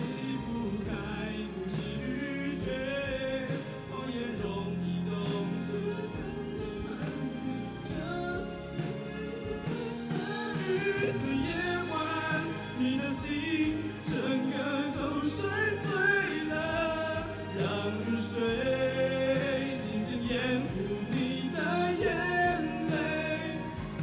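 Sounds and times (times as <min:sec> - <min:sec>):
instrumental accompaniment: 0:00.0 - 0:24.0
man singing into microphone: 0:00.0 - 0:24.0.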